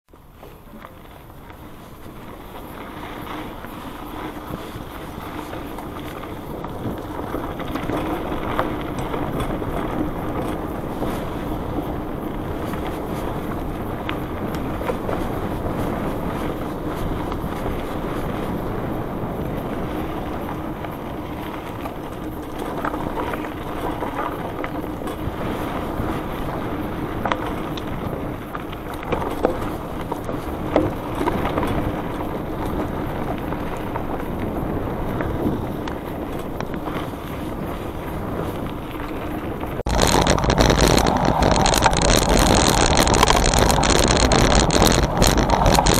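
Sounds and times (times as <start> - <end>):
bike frame rattling over bumps: 0.1 - 45.9
bike tyres rolling on gravel: 0.1 - 45.9.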